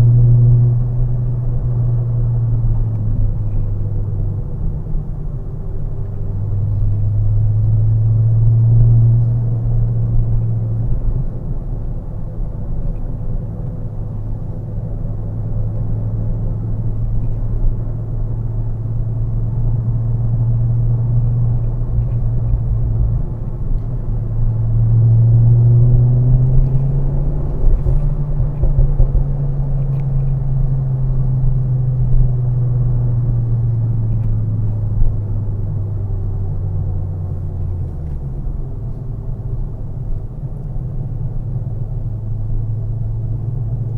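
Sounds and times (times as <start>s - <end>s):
car engine accelerating: 0.0s - 43.9s
road rumble: 0.0s - 43.9s.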